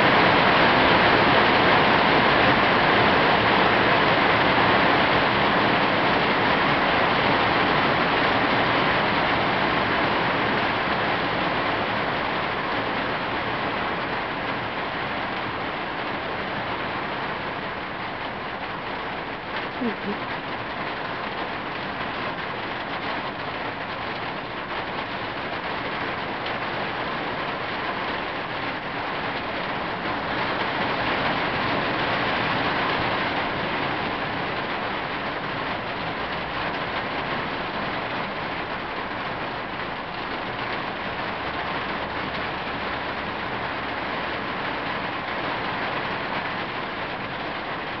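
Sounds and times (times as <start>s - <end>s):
rain on a tin roof: 0.0s - 48.0s.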